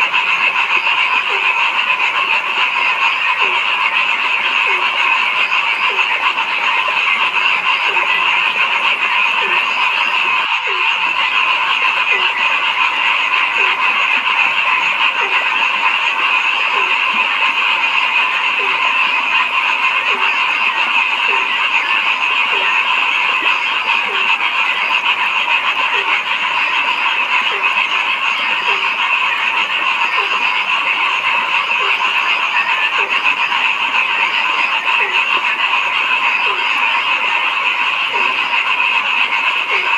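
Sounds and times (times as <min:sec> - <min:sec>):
chorus of frogs trilling: 0:00.0 - 0:39.9
low frog croak: 0:00.0 - 0:39.9.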